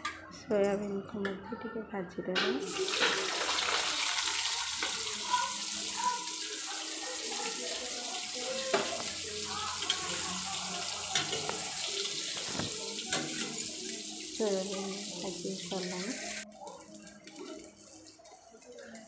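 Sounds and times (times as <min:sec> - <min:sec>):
food sizzling in oil: 0:02.6 - 0:19.0.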